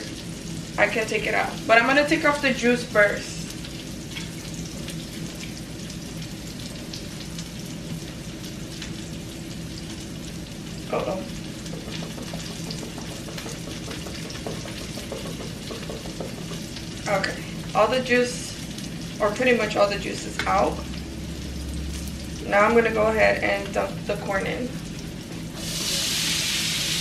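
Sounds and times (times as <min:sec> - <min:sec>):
onion sizzling in a pan: 0:00.0 - 0:27.0.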